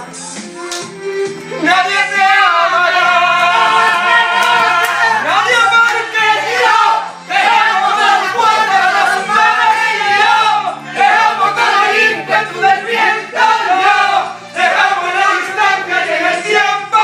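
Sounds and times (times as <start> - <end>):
group of people singing: 2.4 - 17.0.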